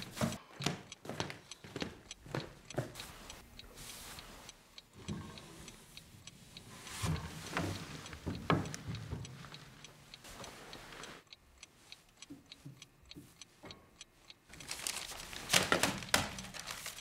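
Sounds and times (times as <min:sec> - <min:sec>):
wall clock ticking: 0:00.0 - 0:17.0.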